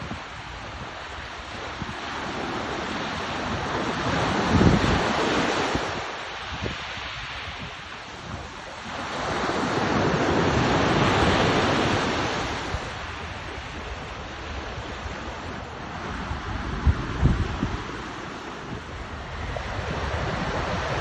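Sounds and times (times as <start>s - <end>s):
sea waves washing in: 0.0s - 21.0s
wind buffeting microphone: 0.0s - 21.0s.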